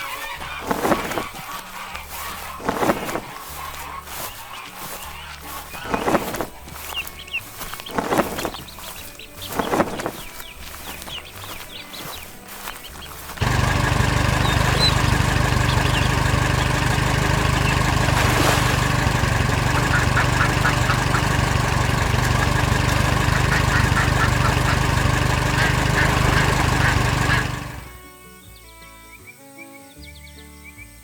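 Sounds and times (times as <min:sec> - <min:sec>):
harvester engine rumble: 0:02.1 - 0:28.0.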